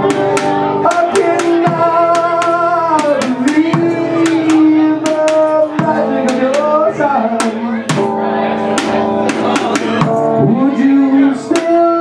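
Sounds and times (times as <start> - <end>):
live blues band playing: 0.0 - 12.0
man singing: 0.0 - 12.0.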